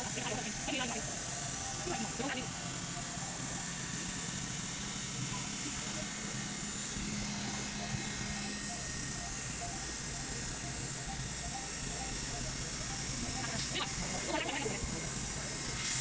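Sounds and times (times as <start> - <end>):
machine running with high hiss: 0.0 - 16.0.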